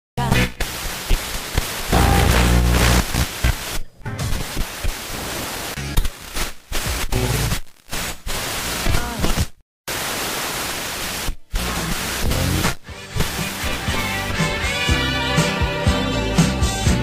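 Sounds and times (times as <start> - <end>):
radio static hiss: 0.2 - 14.6
snatches of radio music: 0.2 - 15.6.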